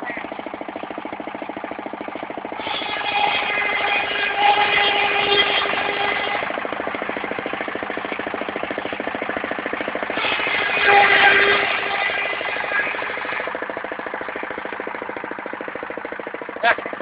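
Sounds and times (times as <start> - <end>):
saw blade cutting timber: 0.0 - 17.0
sawmill engine running: 0.0 - 17.0.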